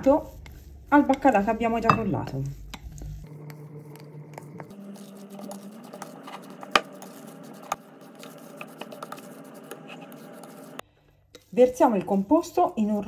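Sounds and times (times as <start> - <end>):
spatula scraping glass bowl: 0.0 - 13.0.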